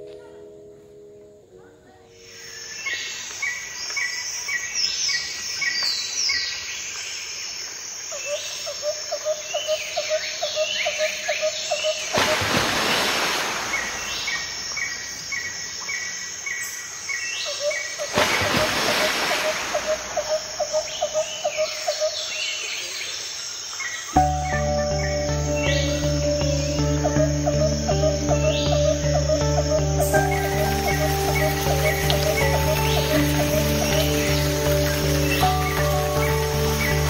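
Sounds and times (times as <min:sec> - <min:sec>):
forest birds calling: 0:02.0 - 0:37.0.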